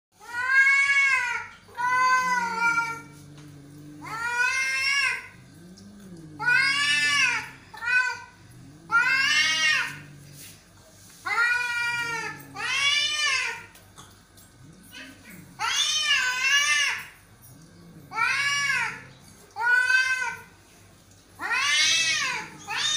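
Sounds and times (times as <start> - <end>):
cats yowling: 0.2 - 13.8, 14.6 - 20.6, 21.4 - 22.9
cat growling: 0.3 - 20.6, 21.4 - 22.9.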